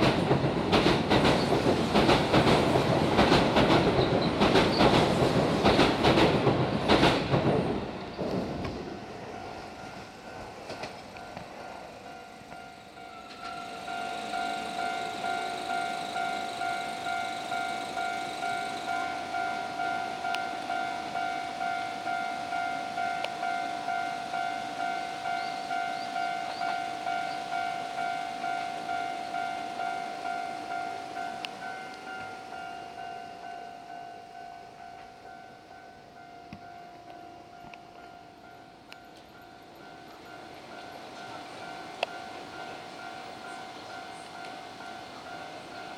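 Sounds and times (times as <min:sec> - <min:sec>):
electric train passing: 0:00.0 - 0:45.9
level crossing warning bell: 0:08.8 - 0:45.9.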